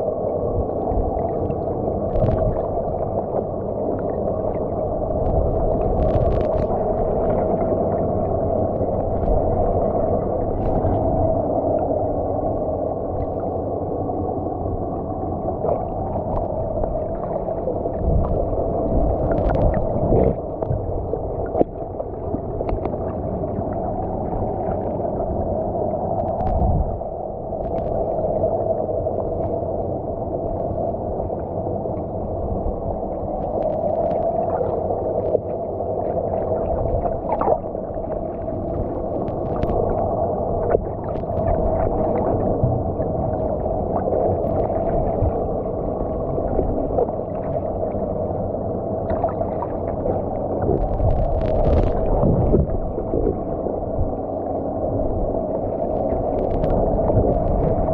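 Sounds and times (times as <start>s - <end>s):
muffled underwater rush: 0.0s - 57.9s.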